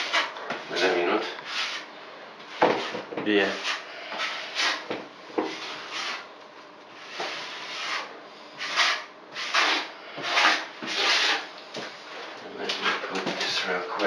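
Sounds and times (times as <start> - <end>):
rubbing strokes against wall: 0.0 - 6.3, 7.0 - 13.9.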